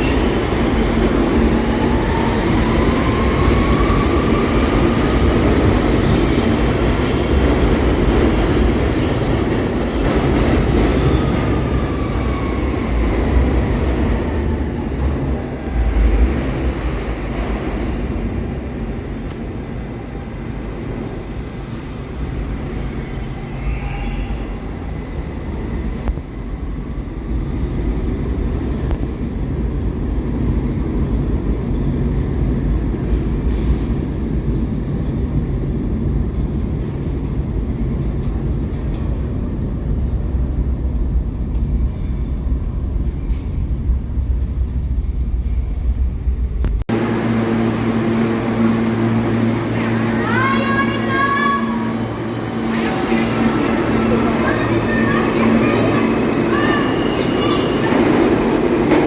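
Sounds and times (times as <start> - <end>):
subway train rumbling on rails: 0.0 - 59.0.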